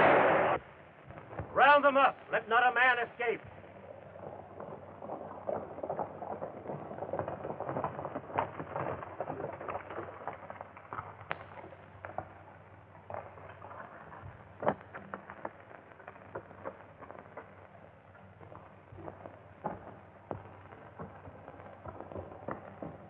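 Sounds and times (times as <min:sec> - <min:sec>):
horses galloping: 0:00.0 - 0:23.0
sharp cracks: 0:00.0 - 0:23.0
soundtrack crackle: 0:00.0 - 0:23.0.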